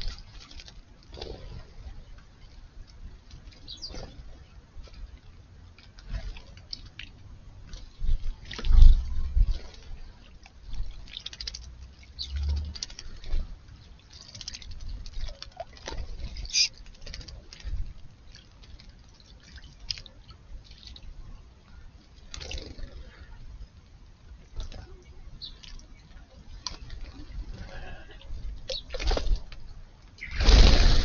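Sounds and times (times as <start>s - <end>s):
birds splashing in water: 0.0s - 31.0s.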